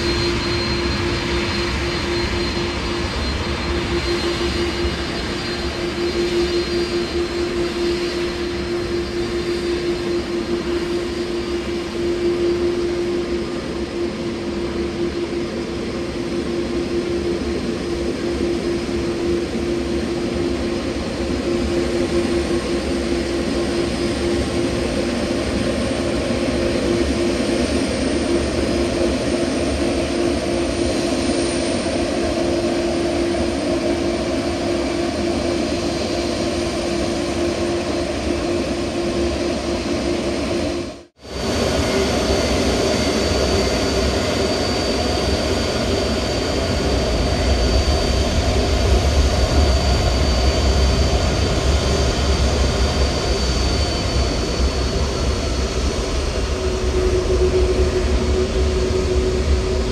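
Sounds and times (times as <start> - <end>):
airliner engines running: 0.0 - 59.9.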